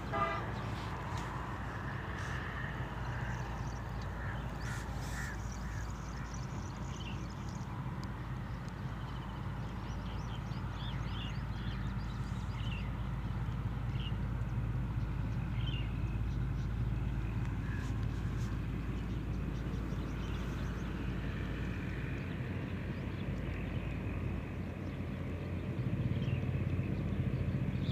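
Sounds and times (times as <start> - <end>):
birds chirping: 0.0 - 27.9
low motor hum: 0.0 - 27.9.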